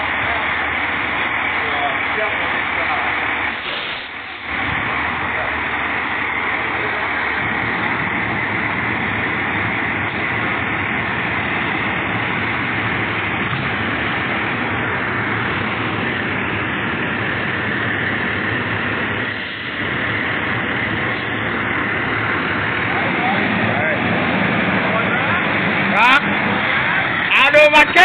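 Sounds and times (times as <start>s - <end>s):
fire truck engine running: 0.0s - 28.0s.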